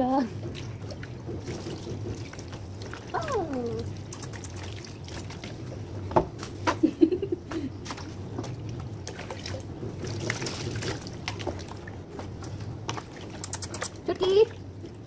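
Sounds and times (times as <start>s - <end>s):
water splashing in a tub: 0.0s - 15.0s.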